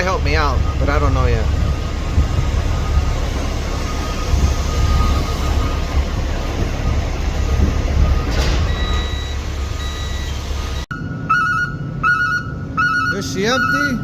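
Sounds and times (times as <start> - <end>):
garbage truck engine rumbling: 0.0 - 14.0
reversing alarm beeping: 0.0 - 14.0.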